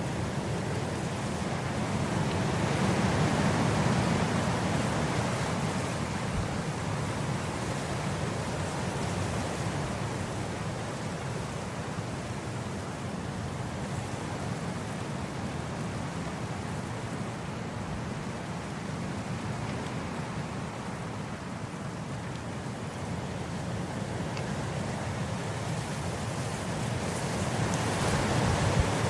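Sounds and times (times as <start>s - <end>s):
wind blowing across grass: 0.0s - 29.0s.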